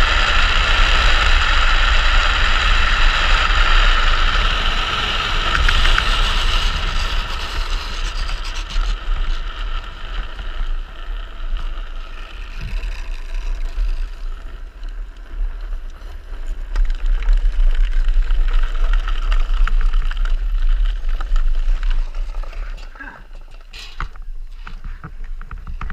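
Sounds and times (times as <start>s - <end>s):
wind buffeting camera: 0.0s - 23.0s
wheels rolling over road: 0.0s - 25.9s.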